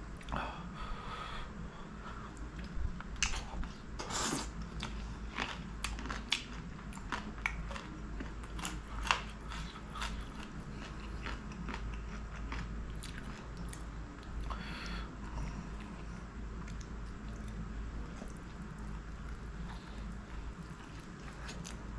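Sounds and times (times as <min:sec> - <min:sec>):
person chewing meat: 0:02.3 - 0:21.9.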